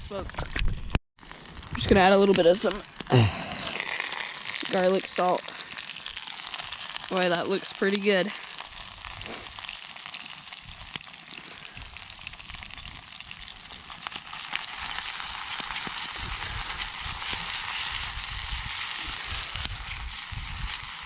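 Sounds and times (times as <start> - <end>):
chicken sizzling with pops: 0.0 - 21.0.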